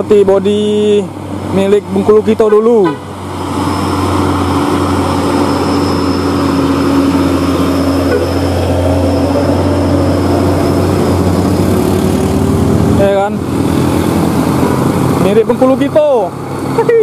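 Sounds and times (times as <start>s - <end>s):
bus diesel engine running: 0.0s - 17.0s
motorcycles passing: 0.0s - 17.0s.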